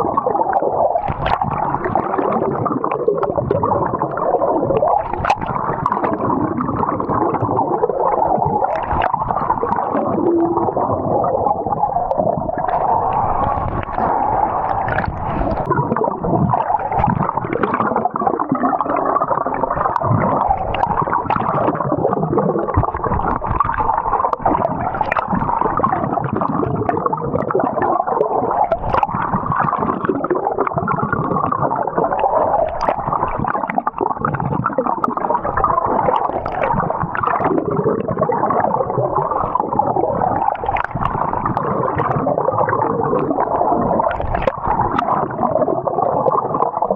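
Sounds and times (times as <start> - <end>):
water gurgling and sloshing: 0.0 - 46.9.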